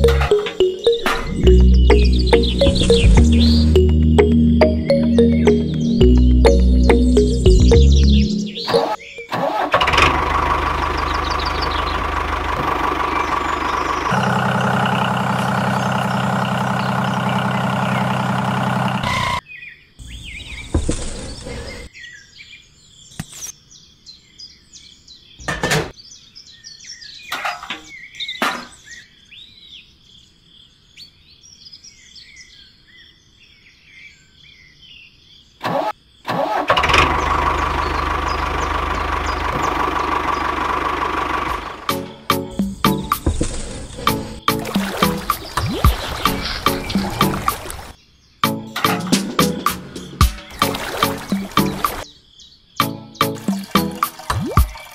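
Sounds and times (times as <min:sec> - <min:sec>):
birds chirping: 0:00.0 - 0:36.3, 0:36.9 - 0:54.9.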